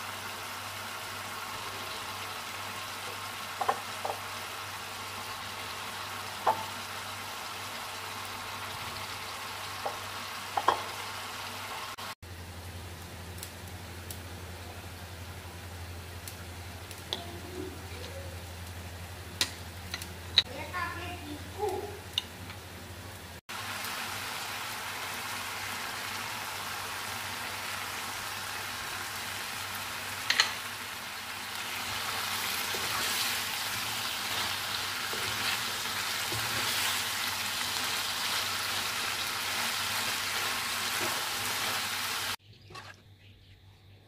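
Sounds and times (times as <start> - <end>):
vegetables sizzling in a wok: 0.0 - 42.4.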